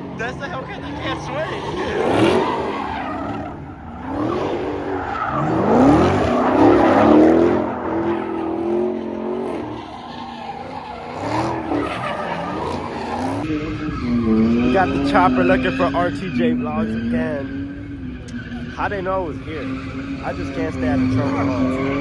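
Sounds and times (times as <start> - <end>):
car engines revving: 0.0 - 22.0
tyres squealing: 0.2 - 22.0.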